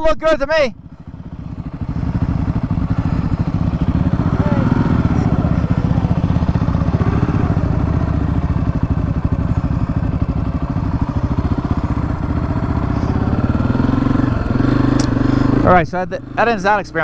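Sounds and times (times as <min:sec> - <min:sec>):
dirt bike engine running: 0:00.3 - 0:17.0.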